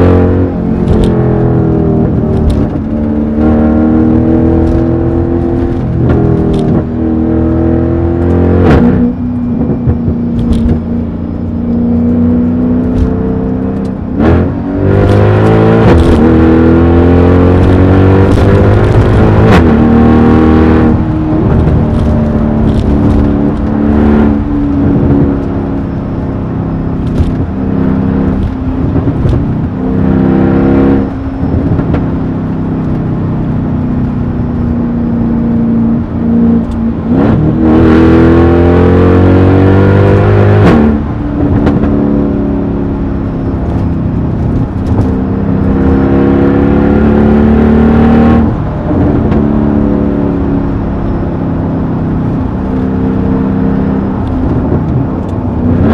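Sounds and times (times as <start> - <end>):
loud car engine accelerating: 0.0 - 55.9.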